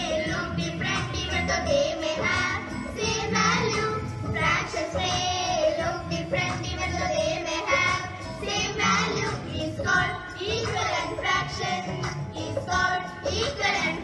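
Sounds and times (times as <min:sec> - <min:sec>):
children singing together: 0:00.0 - 0:14.0
musical accompaniment: 0:00.0 - 0:14.0.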